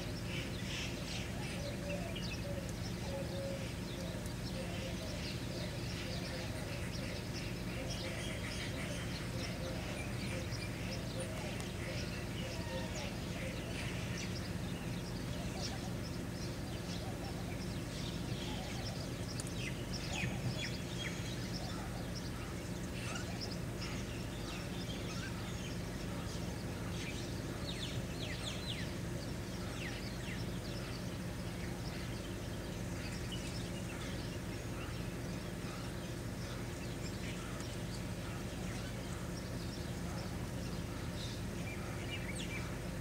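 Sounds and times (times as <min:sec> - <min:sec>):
small birds chirping: 0:00.0 - 0:43.0
steady low hum: 0:00.0 - 0:43.0.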